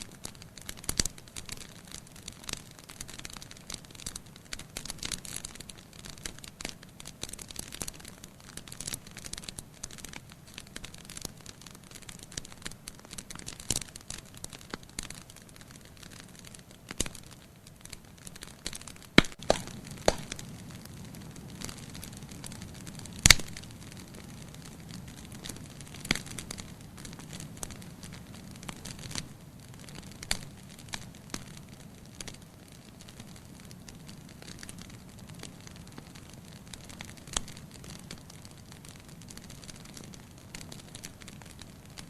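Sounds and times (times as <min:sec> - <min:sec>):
fire popping: 0:00.0 - 0:42.0
wood fire crackling: 0:00.0 - 0:42.0.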